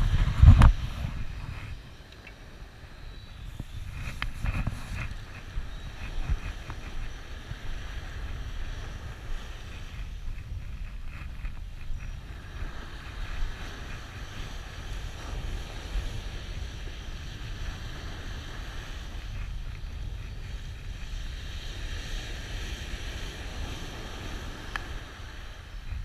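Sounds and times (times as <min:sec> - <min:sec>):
waves breaking on shore: 0:00.0 - 0:26.0
wind buffeting microphone: 0:00.0 - 0:26.0.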